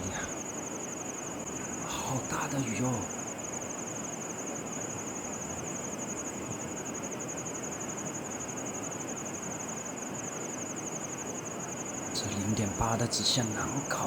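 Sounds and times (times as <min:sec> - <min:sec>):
insect trilling: 0:00.0 - 0:14.0.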